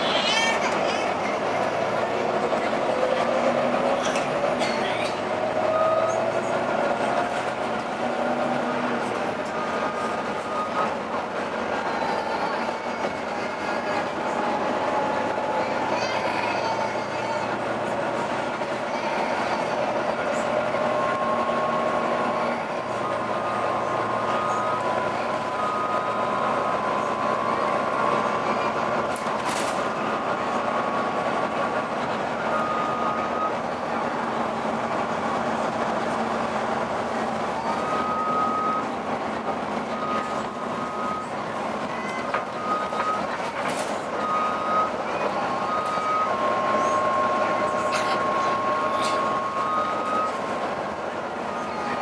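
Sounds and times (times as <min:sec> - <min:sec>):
bus engine running: 0:00.0 - 0:52.0.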